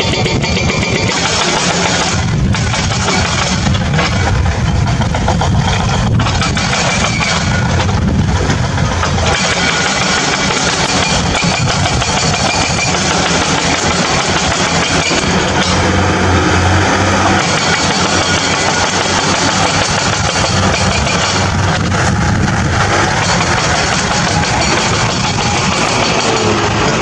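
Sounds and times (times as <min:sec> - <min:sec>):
engine running with low hum: 0:00.0 - 0:27.0.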